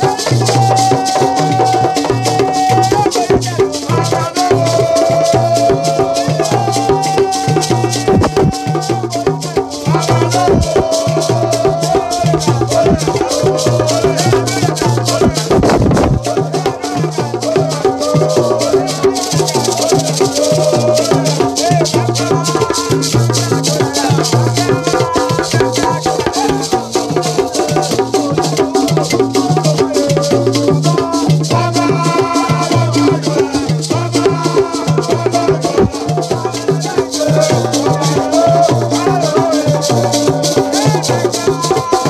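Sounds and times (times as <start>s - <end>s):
frame drums beaten with sticks: 0.0s - 42.0s
men singing together: 0.0s - 42.0s.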